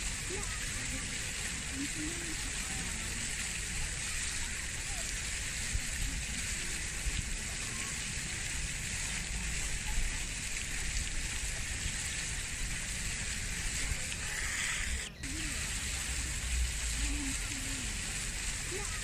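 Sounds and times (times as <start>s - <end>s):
even hiss: 0.0s - 19.0s.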